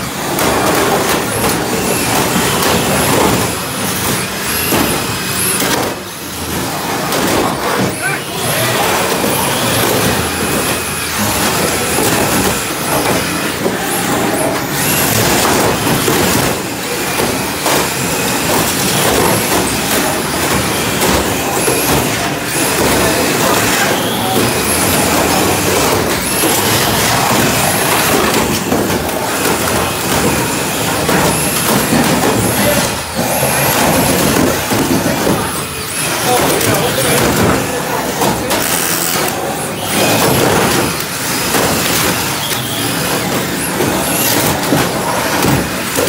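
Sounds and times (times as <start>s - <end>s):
toy car motors whining: 0.0s - 46.0s
toy cars knocking together: 0.0s - 46.0s
tyres scrubbing wooden boards: 0.0s - 46.0s.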